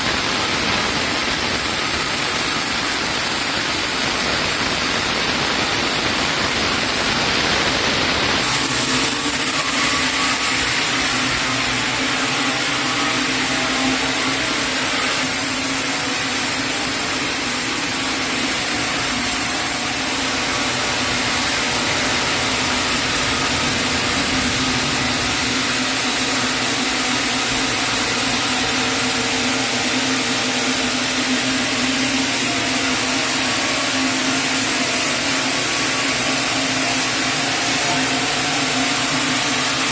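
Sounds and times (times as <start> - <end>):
sawmill saw cutting log: 0.1 - 39.9.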